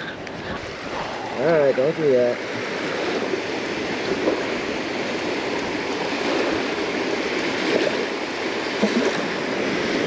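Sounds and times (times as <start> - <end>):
small waves lapping on sand: 0.0 - 10.0.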